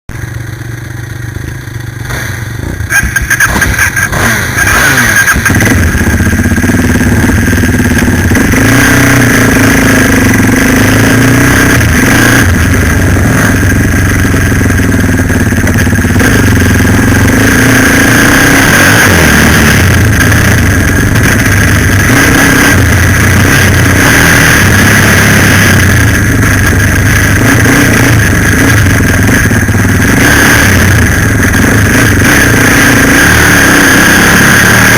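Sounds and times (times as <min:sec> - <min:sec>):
quad bike engine revving: 0:00.2 - 0:34.9.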